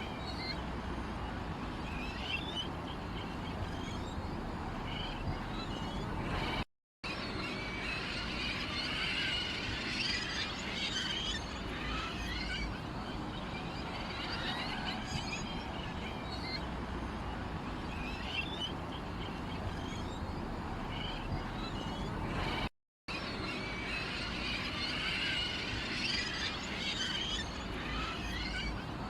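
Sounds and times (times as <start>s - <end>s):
songbirds chirping in chorus: 0.0s - 29.0s.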